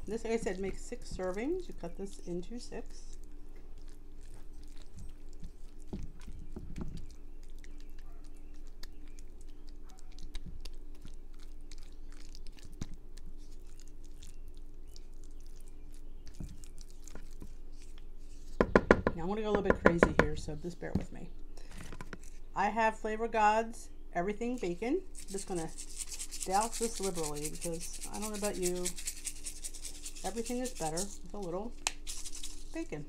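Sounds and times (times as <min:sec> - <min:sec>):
faint steady hum: 0:00.0 - 0:33.0
spatula squishing and scraping: 0:00.2 - 0:18.6, 0:24.6 - 0:32.9.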